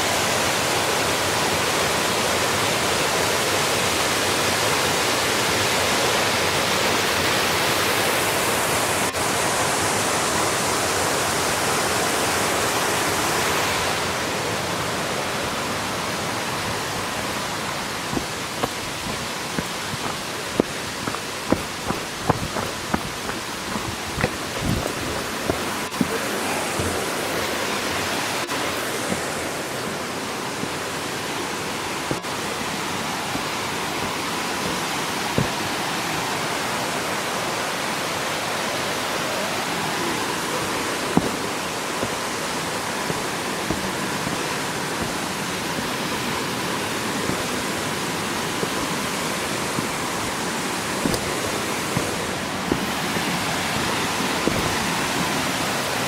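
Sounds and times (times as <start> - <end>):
waterfall rushing over rock: 0.0 - 56.0.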